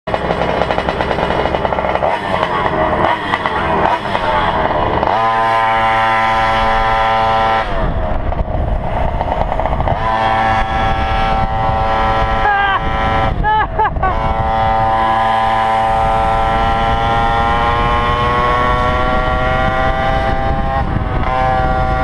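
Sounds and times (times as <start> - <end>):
small two-stroke engine revving: 0.1 - 22.0.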